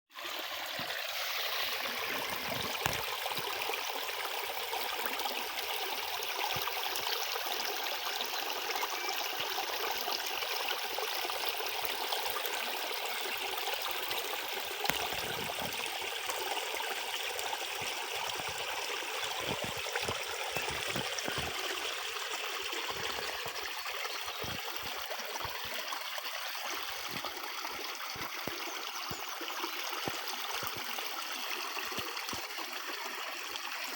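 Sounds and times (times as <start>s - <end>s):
forest stream flowing: 0.1s - 33.9s.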